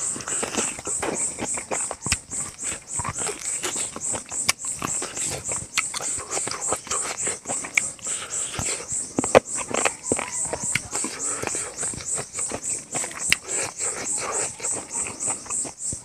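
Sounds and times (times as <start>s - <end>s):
high-pitched pulsing chirping: 0.0s - 16.0s
man chewing and lip-smacking: 0.0s - 16.0s.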